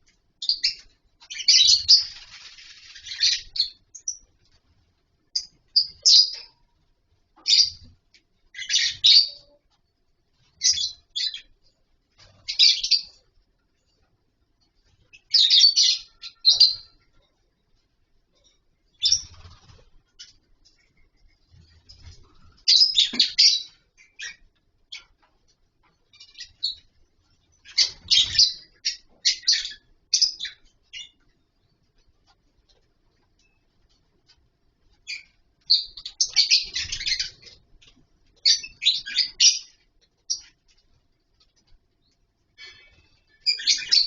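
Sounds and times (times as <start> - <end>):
lovebirds chirping: 0.0 - 14.0, 14.6 - 44.0.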